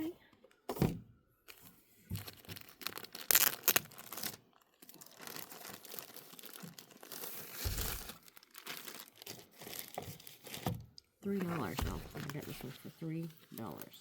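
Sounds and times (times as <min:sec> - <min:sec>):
plastic packaging crinkling: 0:01.5 - 0:14.0.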